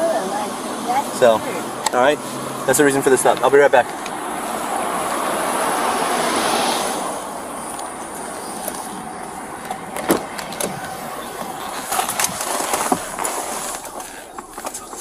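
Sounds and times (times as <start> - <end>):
car passing: 0.0 - 15.0
road traffic: 0.0 - 15.0.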